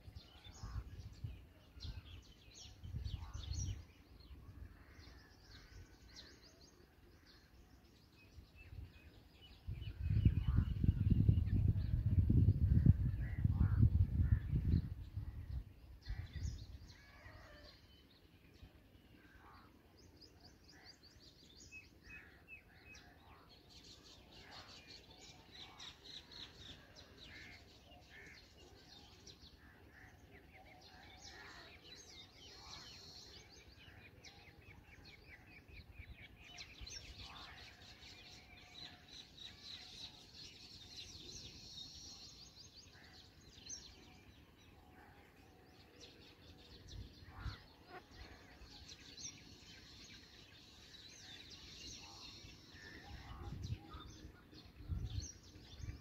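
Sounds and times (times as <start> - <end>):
birds chirping: 0.0 - 56.0
outdoor background noise: 0.0 - 56.0.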